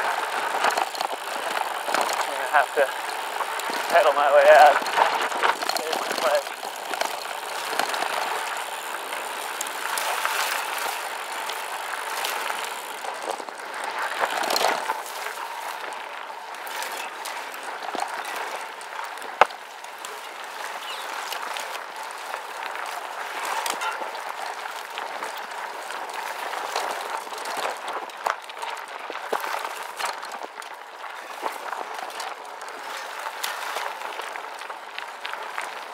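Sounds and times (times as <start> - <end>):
bike tyres crunching on gravel: 0.0 - 35.9.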